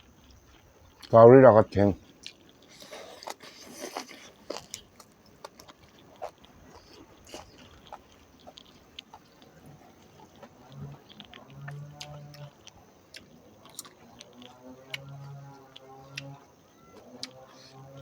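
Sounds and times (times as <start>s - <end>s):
person chewing: 0.1s - 1.2s, 2.0s - 18.0s.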